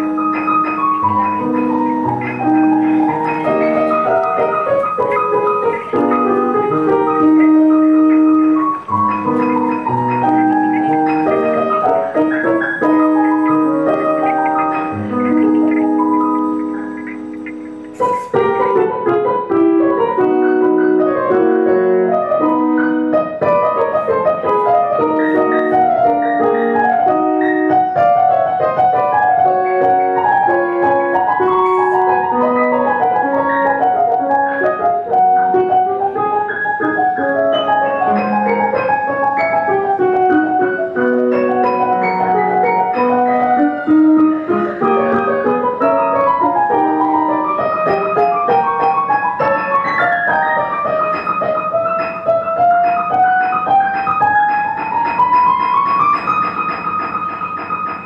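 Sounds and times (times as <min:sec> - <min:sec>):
digital keyboard piano piece: 0:00.0 - 0:58.0.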